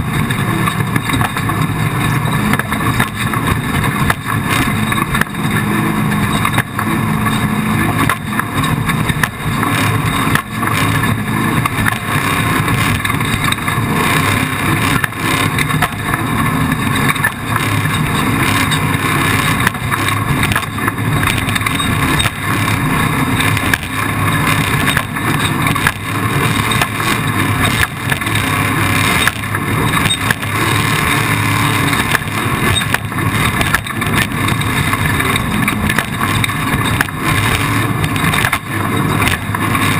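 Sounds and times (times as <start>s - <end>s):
knocks and rattles: 0.0s - 39.9s
race vehicle engine running: 0.0s - 39.9s.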